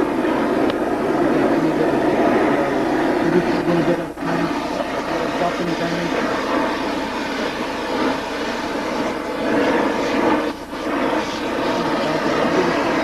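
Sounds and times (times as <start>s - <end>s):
gas welding torch flame: 0.0s - 13.0s.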